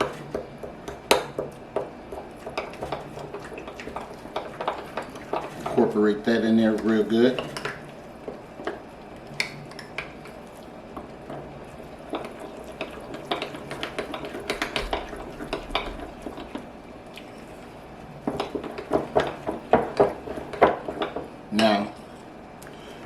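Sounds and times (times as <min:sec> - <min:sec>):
utensil scraping mixing bowl: 0:00.0 - 0:22.2.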